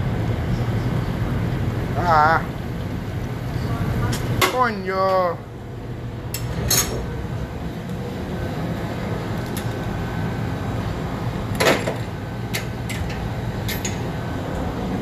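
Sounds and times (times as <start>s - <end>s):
kitchen equipment hum: 0.0s - 15.0s.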